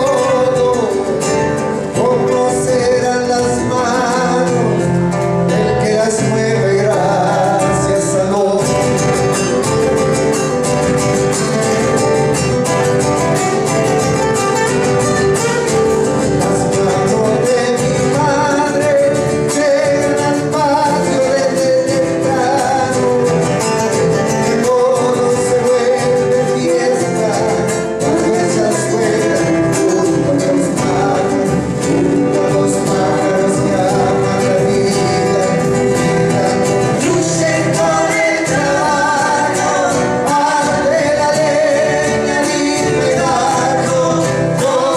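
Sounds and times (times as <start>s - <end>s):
person singing: 0.0s - 9.4s, 14.7s - 44.9s
acoustic guitars: 0.0s - 44.9s.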